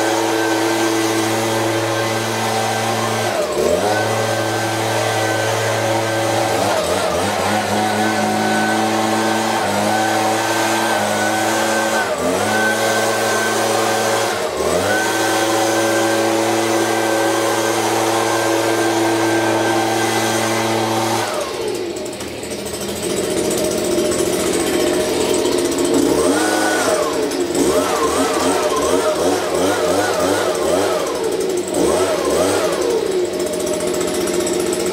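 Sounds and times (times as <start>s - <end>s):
gas leaf blower running: 0.0s - 34.9s.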